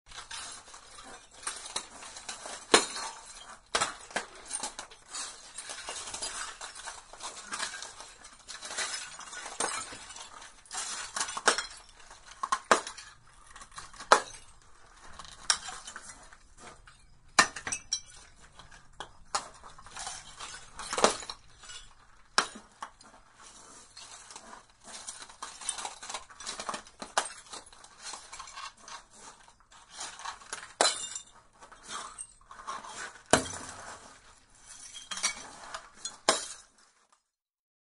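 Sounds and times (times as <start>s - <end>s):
broken glass clinking and crunching: 0.1s - 37.3s.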